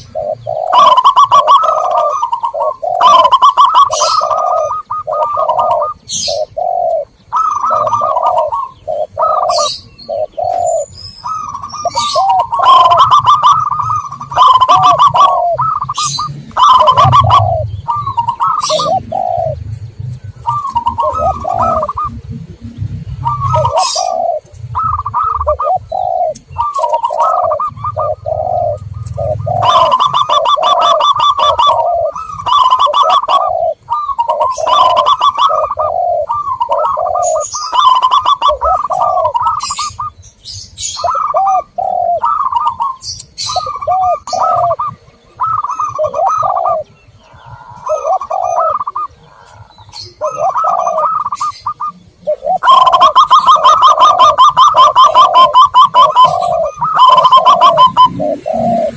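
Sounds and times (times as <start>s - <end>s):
doves cooing: 0.0s - 58.9s
small birds chirping: 0.0s - 58.9s.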